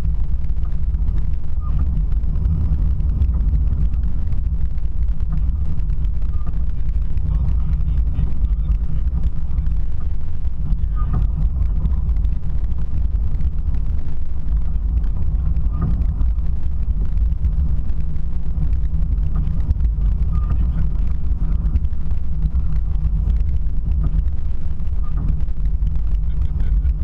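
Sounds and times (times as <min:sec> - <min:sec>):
car driving low rumble: 0:00.0 - 0:27.0.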